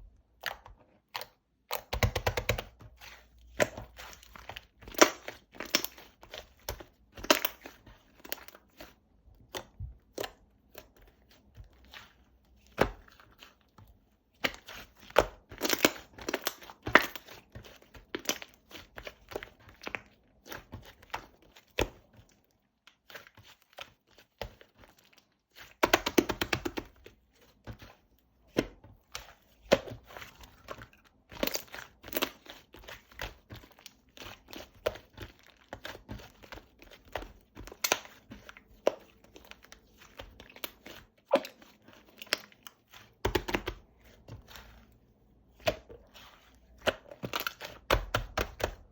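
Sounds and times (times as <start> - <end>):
slime squished by hand: 0.4 - 48.9.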